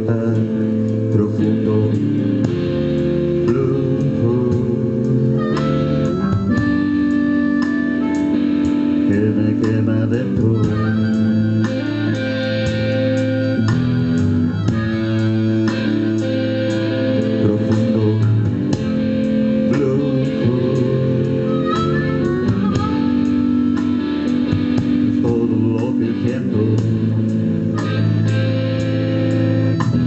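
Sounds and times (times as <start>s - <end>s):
bass guitar: 0.0s - 30.0s
blues band playing: 0.0s - 30.0s
electric guitar: 0.0s - 30.0s
steady drum beat: 0.0s - 30.0s.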